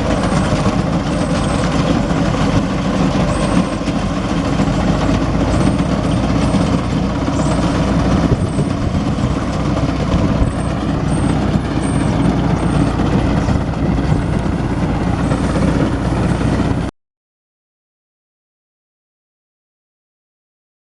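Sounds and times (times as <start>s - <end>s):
tractor running with reaper: 0.0s - 16.9s.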